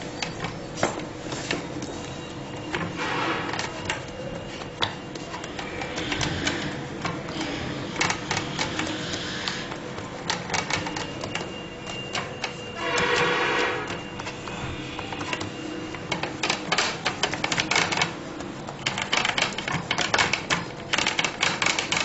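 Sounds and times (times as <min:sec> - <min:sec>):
fingers tapping metal tray: 0:00.2 - 0:22.0.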